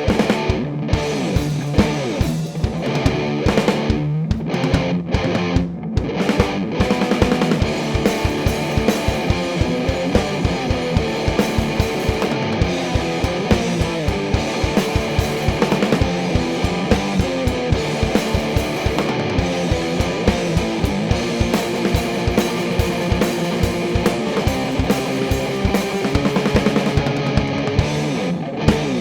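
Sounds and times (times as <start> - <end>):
distorted electric guitar riff: 0.0 - 29.0
fast drum beat: 0.0 - 29.0.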